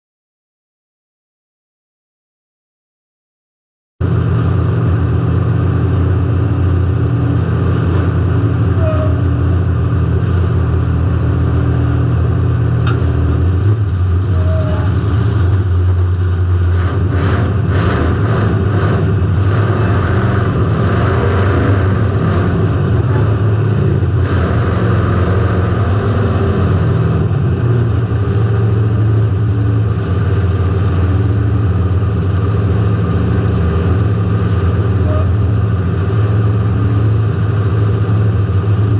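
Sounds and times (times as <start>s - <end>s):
car engine revving: 4.1s - 38.8s.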